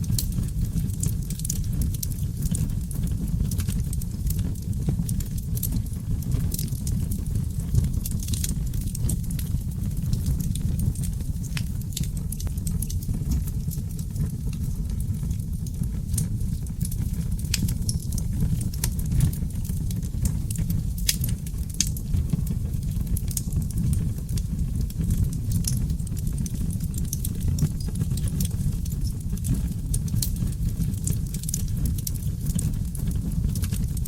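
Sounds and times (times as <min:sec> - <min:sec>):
logs crackling and popping: 0:00.0 - 0:34.0
low rush of flames: 0:00.0 - 0:34.0.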